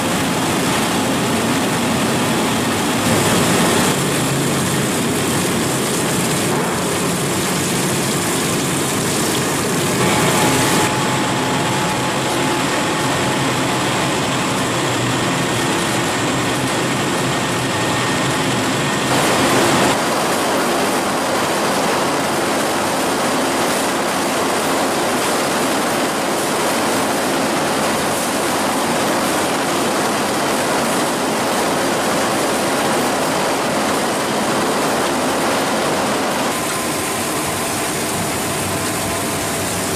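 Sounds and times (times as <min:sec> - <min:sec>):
factory machinery din: 0:00.0 - 0:39.9.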